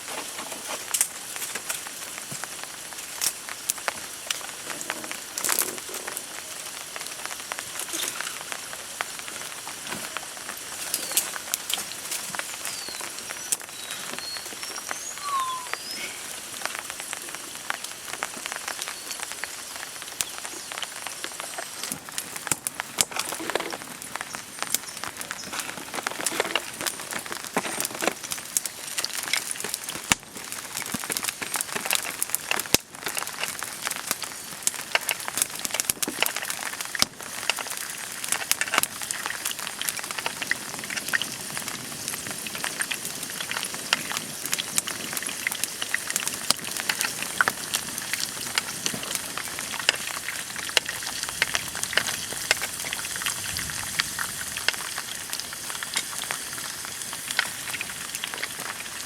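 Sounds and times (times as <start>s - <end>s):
steady rain falling: 0.0s - 59.0s
sharp raindrop hits: 0.9s - 59.0s.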